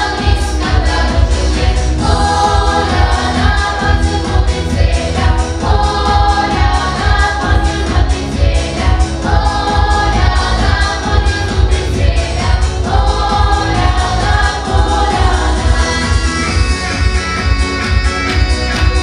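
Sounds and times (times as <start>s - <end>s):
children singing together: 0.0s - 19.0s
pulsing bass beat: 0.0s - 19.0s.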